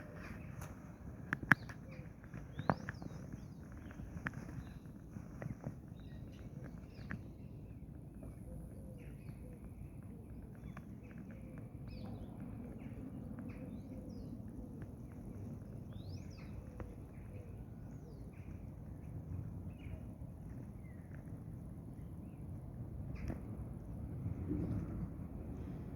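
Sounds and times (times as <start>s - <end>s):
small birds chirping: 0.0s - 24.8s.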